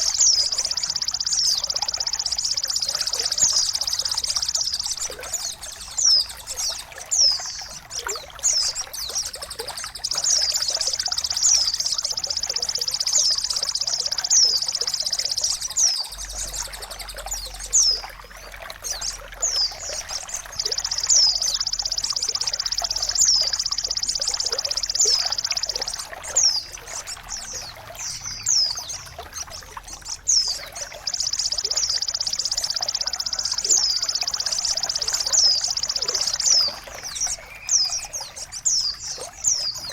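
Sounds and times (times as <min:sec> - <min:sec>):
sharp high bird chirps: 0:00.0 - 0:18.2, 0:18.9 - 0:39.9
high buzzing bird trills: 0:00.0 - 0:39.9
trickle of water: 0:00.0 - 0:39.9.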